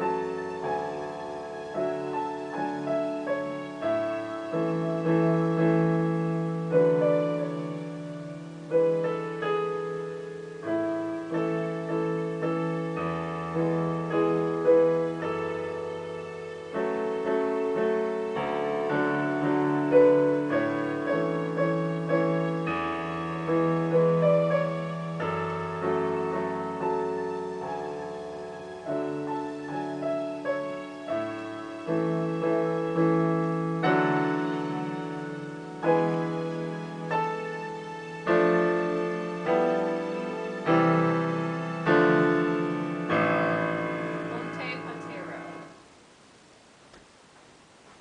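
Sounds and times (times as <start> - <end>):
solo piano melody: 0.0 - 48.0.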